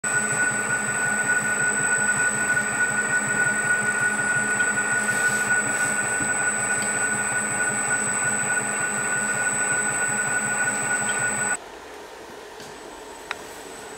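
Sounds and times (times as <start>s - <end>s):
roller mill running: 0.0s - 11.6s.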